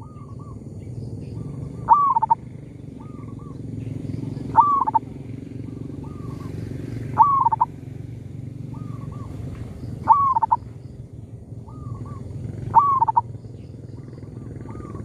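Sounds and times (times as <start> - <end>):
doves cooing: 0.0 - 0.7, 1.4 - 10.7, 11.5 - 15.0
steady low hum: 0.0 - 15.0.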